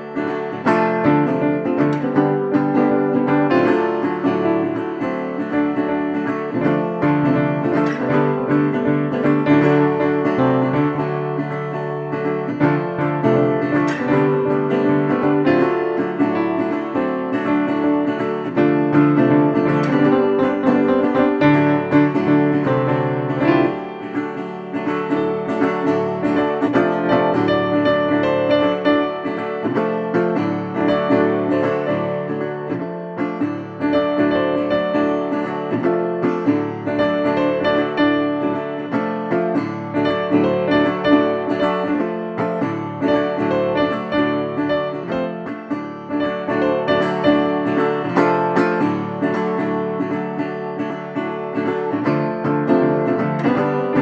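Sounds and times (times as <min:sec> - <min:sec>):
plucked guitar music: 0:00.0 - 0:54.0.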